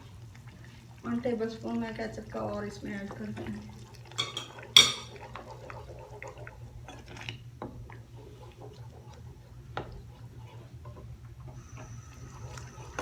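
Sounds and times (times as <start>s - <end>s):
sauce simmering in a pan: 0.0s - 13.0s.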